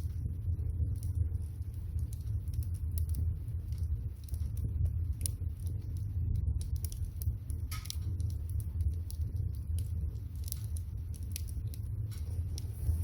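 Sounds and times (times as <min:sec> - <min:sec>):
steady low rumble: 0:00.0 - 0:13.0
wood fire crackling and popping: 0:00.0 - 0:13.0.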